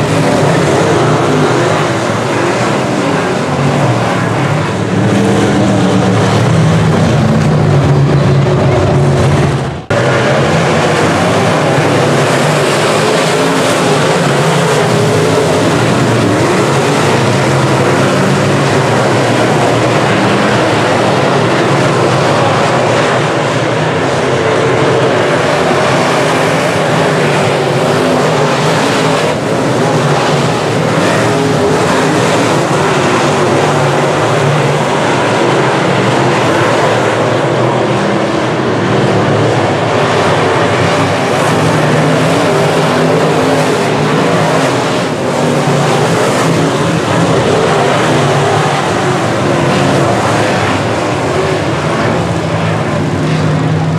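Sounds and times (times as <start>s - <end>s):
race car engines droning: 0.0s - 53.9s.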